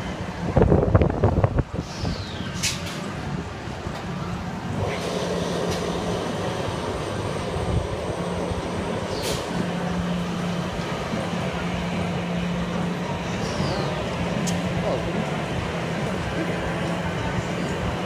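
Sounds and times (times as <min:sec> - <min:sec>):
ride rumbling with low hum: 0:00.0 - 0:18.0.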